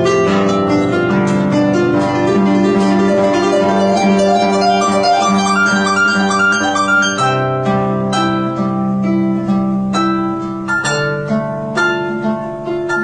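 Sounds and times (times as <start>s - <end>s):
plucked harp-like background music: 0.0s - 13.0s.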